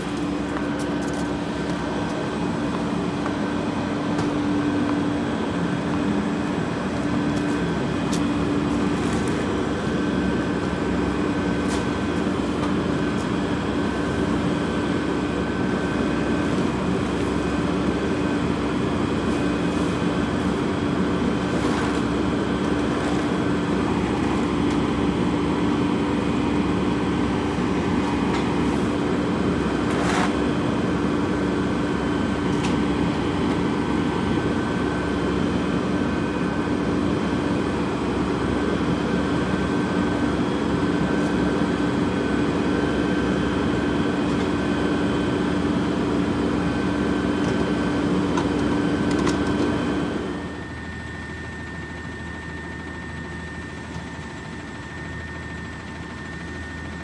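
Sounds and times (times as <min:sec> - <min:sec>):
truck engine running: 0:00.0 - 0:50.6.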